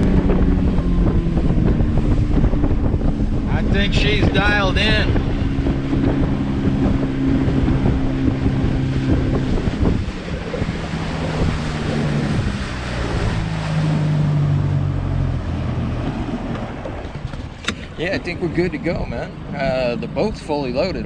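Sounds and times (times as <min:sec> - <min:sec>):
boat engine running: 0:00.0 - 0:21.0
water rushing: 0:00.0 - 0:21.0
wind buffeting microphone: 0:00.0 - 0:21.0.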